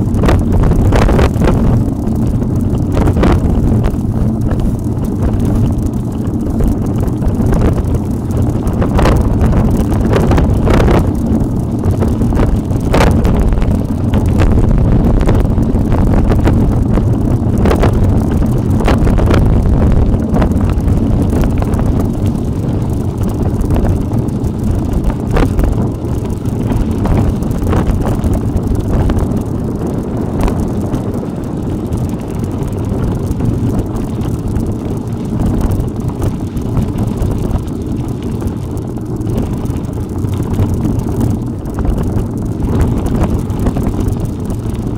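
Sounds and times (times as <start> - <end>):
bicycle knocks and rattles: 0.0 - 44.9
wind rumbling on microphone: 0.0 - 44.9.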